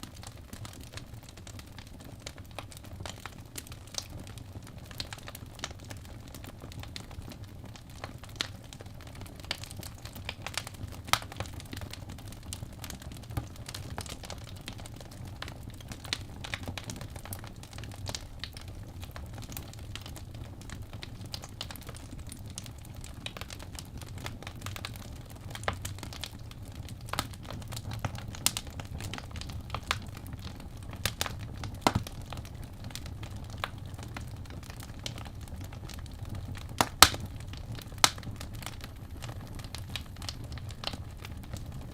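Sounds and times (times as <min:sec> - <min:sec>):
crackles and pops of burning logs: 0:00.0 - 0:41.9
low rumble of flames: 0:00.0 - 0:41.9.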